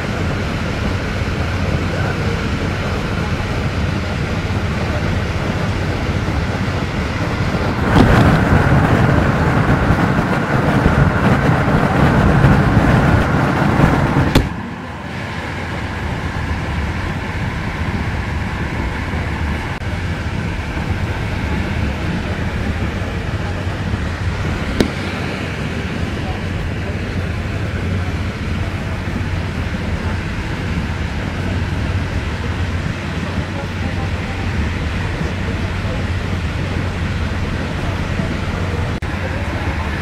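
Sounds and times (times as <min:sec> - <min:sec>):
train wheels rushing on rails: 0:00.0 - 0:40.0.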